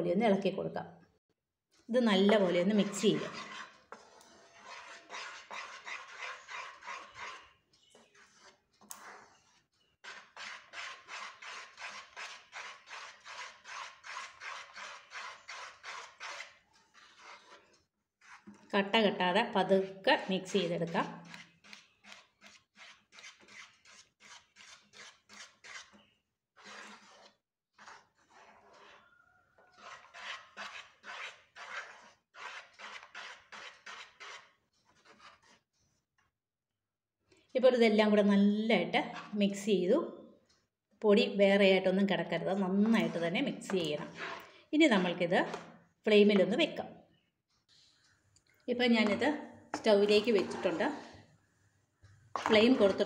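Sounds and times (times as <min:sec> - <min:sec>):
wooden spoon scraping a pan: 0:01.8 - 0:36.1, 0:39.0 - 0:39.7, 0:42.2 - 0:46.7, 0:47.6 - 0:53.0.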